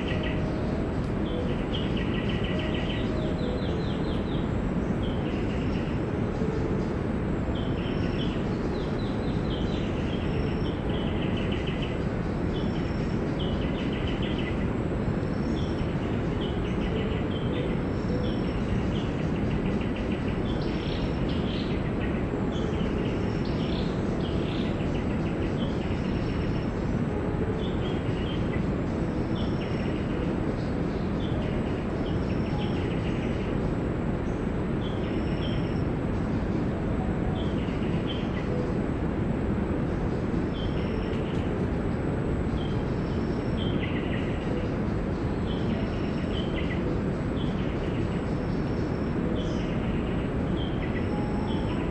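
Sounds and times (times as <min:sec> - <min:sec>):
birds chirping: 0:00.0 - 0:51.9
low rumbling background noise: 0:00.0 - 0:51.9.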